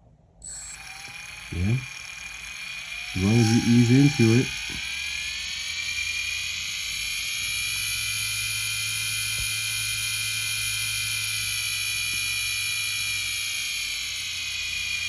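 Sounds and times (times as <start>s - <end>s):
electric motor whine: 0.4s - 15.0s.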